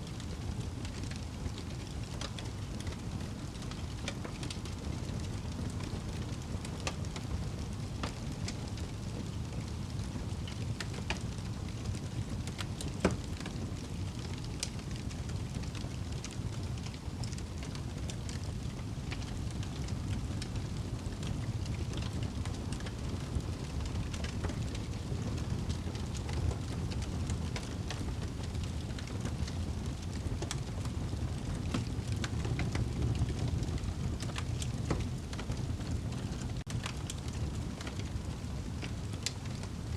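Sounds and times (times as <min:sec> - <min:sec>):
fire crackling and popping: 0:00.0 - 0:39.9
low rush of flames: 0:00.0 - 0:39.9.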